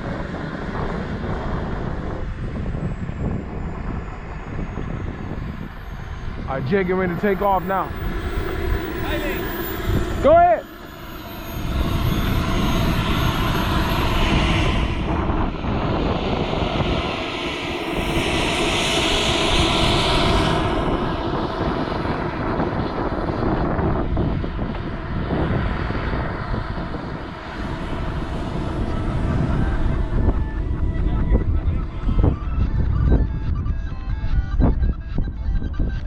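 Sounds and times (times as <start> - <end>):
model airplane motor whine: 0.0 - 34.5
wind rumble on microphone: 0.0 - 36.0.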